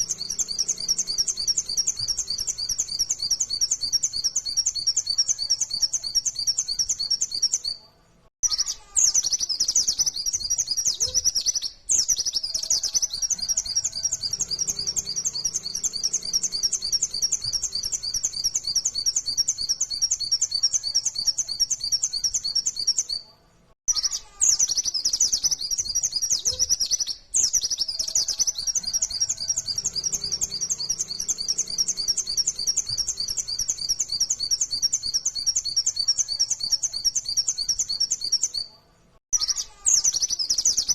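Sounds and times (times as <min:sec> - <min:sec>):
bird twittering song: 0:00.0 - 0:07.8, 0:08.4 - 0:23.2, 0:23.9 - 0:40.9.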